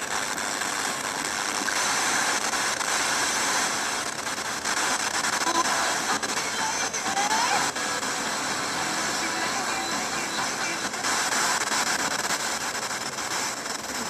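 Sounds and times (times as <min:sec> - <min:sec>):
faint radio tones: 0:00.0 - 0:14.0
radio static hiss: 0:00.0 - 0:14.0.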